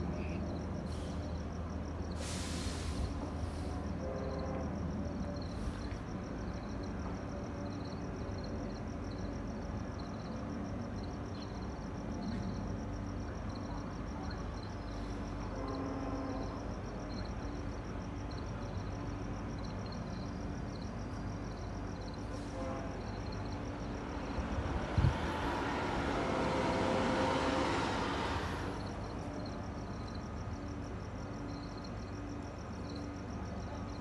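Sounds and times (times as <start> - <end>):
distant train rumble: 0.0 - 34.0.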